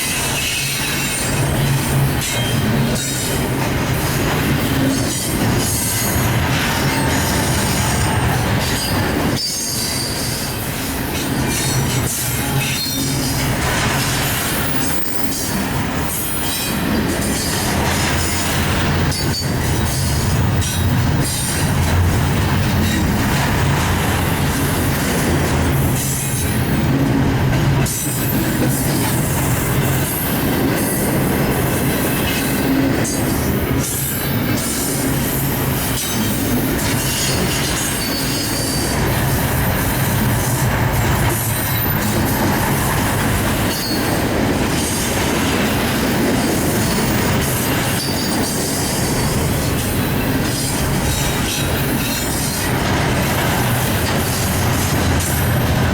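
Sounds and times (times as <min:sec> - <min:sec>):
train clanks: 0:00.0 - 0:55.9
train wheels rumbling on rails: 0:00.0 - 0:55.9.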